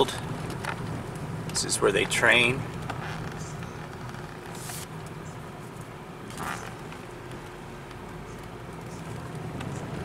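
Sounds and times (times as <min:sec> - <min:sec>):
car engine and road hum: 0:00.0 - 0:10.0.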